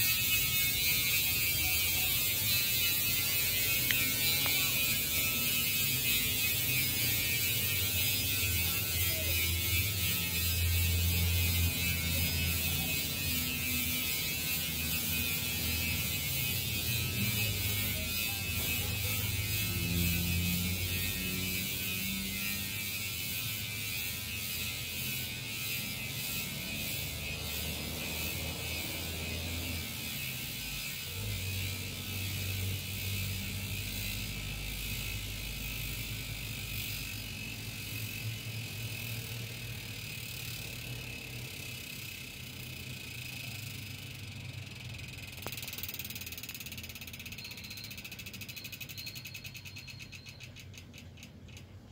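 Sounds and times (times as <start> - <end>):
bicycle hub freewheeling buzz: 0.0 - 51.9.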